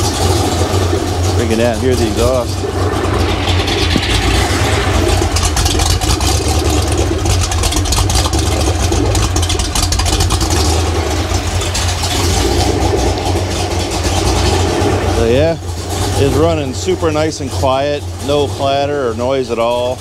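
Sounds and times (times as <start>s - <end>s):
car engine idling with slight surge: 0.0s - 20.0s.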